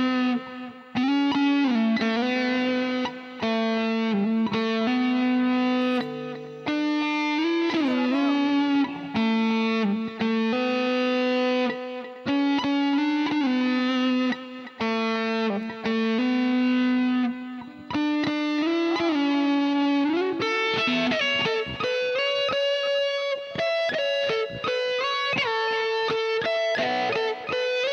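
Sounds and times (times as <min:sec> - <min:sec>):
distorted electric guitar melody: 0:00.0 - 0:27.9.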